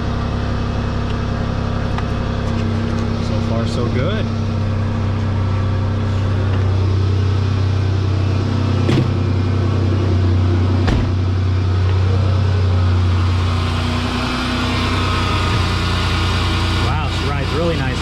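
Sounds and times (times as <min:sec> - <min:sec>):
car engine idling: 0:00.0 - 0:18.0
loud exhaust noise: 0:00.0 - 0:18.0.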